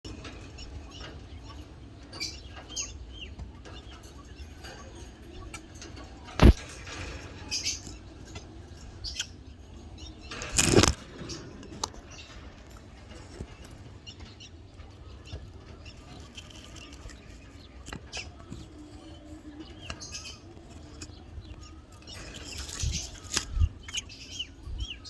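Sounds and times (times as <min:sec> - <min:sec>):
budgerigars chirping: 0:00.1 - 0:12.4, 0:13.0 - 0:25.0.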